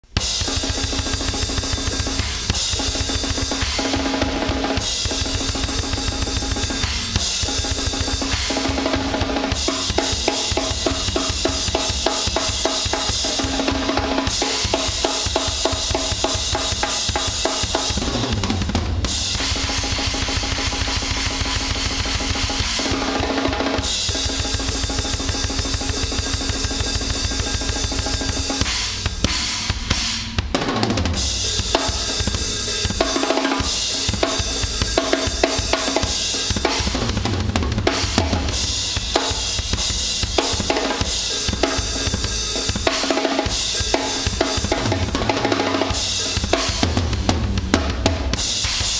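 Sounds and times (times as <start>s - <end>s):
fast punk drumming: 0.0s - 48.9s.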